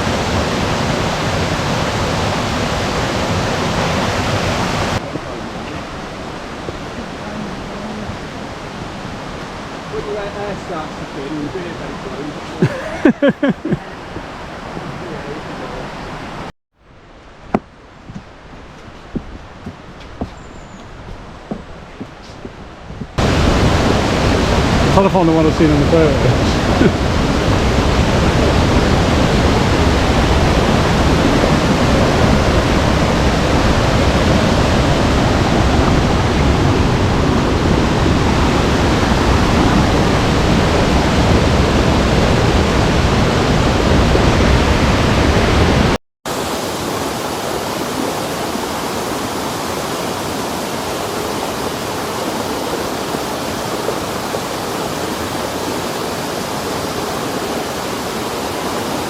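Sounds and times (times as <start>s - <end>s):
waterfall rushing: 0.0s - 16.5s, 23.2s - 59.0s.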